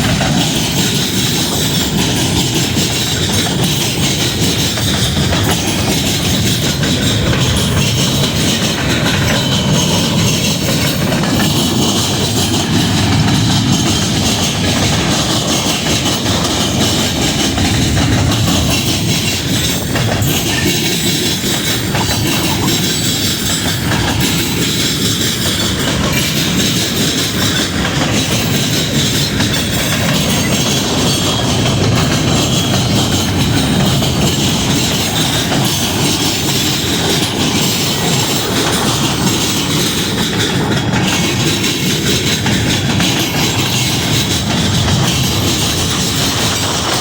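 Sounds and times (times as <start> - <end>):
train wheels rumbling on track: 0.0 - 47.0.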